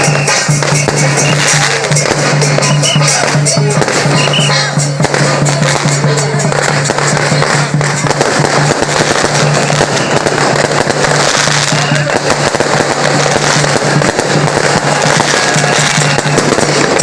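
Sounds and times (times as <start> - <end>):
firecrackers crackling: 0.0 - 17.0
music playing: 0.0 - 17.0.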